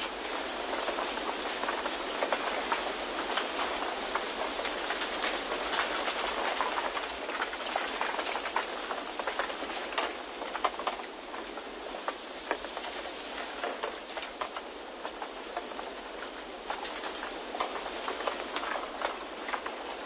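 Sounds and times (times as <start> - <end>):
light irregular ticks: 0.0 - 20.0.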